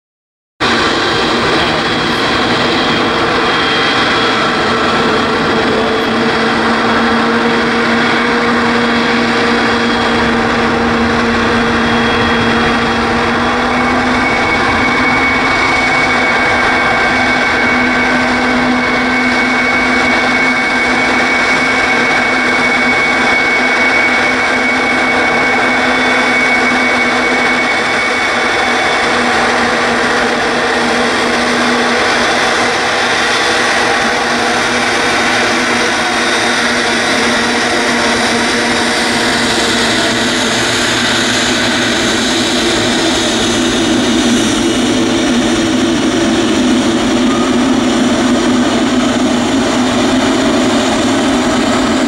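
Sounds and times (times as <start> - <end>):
jet engines running with whine: 0.6 - 52.0.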